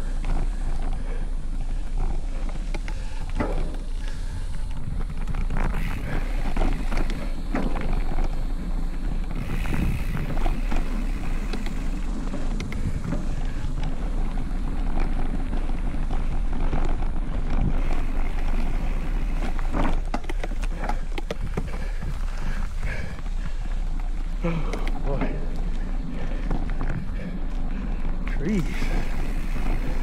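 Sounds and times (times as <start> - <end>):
bike rattles and clicks: 0.0 - 30.0
bike tyre and wind rumble: 0.0 - 30.0.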